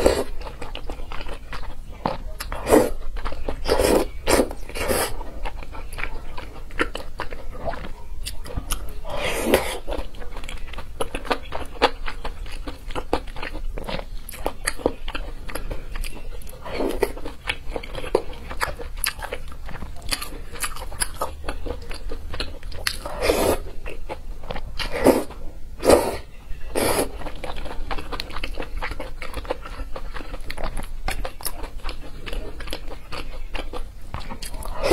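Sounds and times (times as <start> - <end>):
wet chewing and smacking: 0.0 - 25.4, 27.2 - 34.9.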